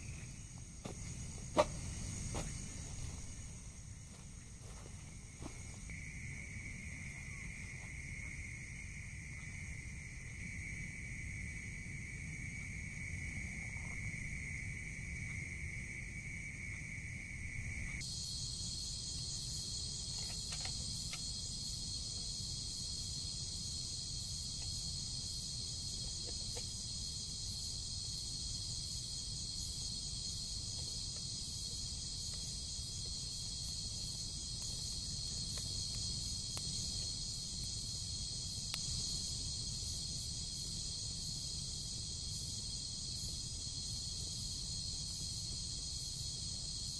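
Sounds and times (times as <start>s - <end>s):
pulsing insect chorus: 0.0s - 46.9s
insect buzzing: 5.2s - 46.9s.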